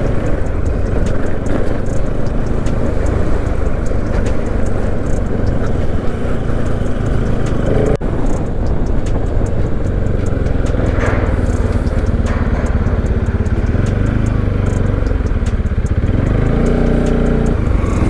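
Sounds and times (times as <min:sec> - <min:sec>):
motorcycle engine running: 0:00.0 - 0:18.0
wind rush on microphone: 0:00.0 - 0:18.0.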